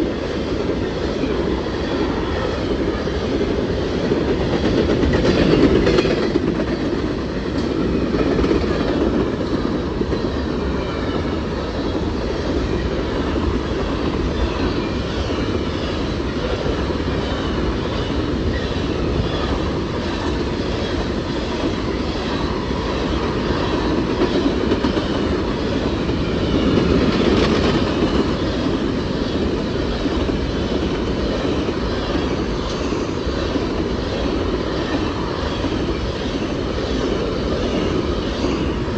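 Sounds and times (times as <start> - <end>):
train wheels rumbling and rattling: 0.0 - 38.9.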